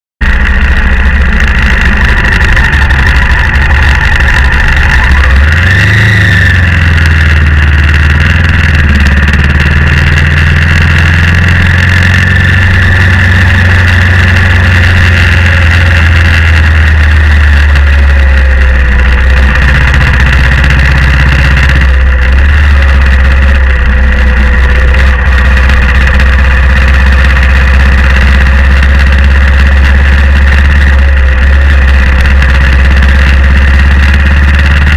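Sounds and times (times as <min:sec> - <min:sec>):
motorcycle engine accelerating: 0:00.2 - 0:34.9.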